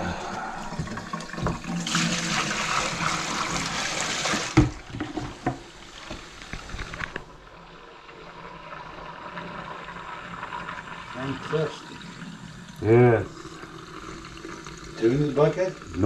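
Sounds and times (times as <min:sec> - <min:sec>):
tap water running into sink: 0:00.0 - 0:07.3, 0:08.2 - 0:16.0.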